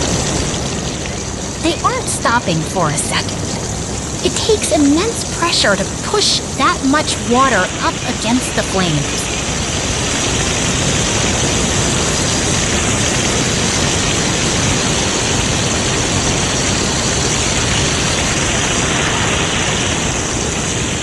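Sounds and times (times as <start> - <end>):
fire hoses spraying water: 0.0 - 21.0.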